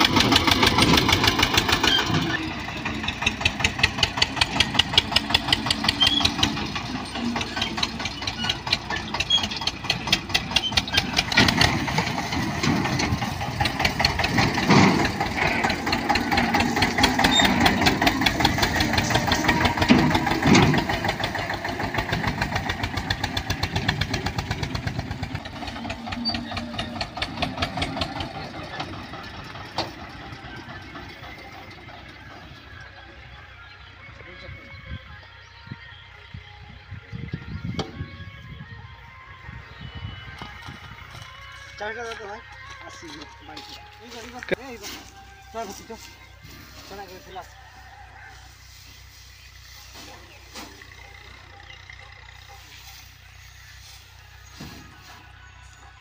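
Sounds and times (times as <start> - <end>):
tractor diesel engine chugging: 0.0 - 56.0.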